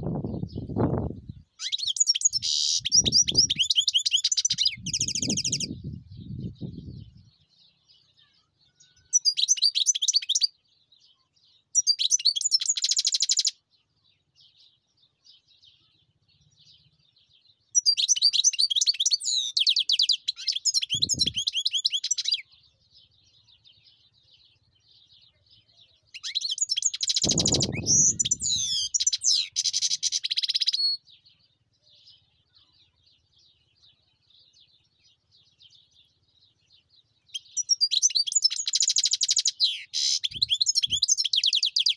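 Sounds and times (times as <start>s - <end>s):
goldfinch twittering song: 0.1s - 41.9s.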